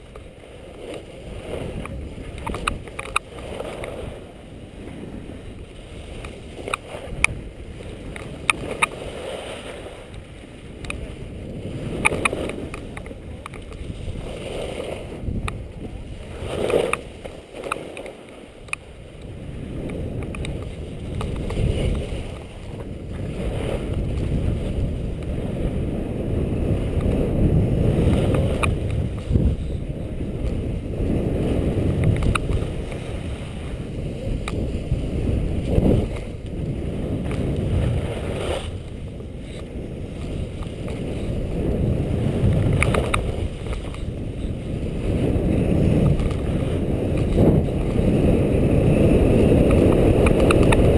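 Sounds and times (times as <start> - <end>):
skis running over snow: 0.0 - 50.9
wind rumbling on microphone: 0.0 - 50.9.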